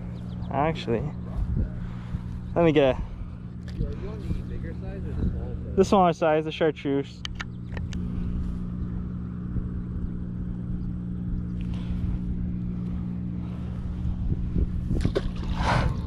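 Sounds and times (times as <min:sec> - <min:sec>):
low mechanical engine drone: 0:00.0 - 0:16.0.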